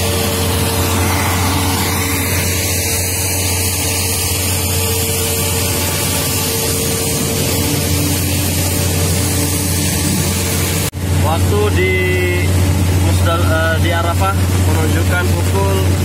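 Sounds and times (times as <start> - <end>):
low steady hum: 0.0 - 16.0
strong wind: 0.0 - 16.0.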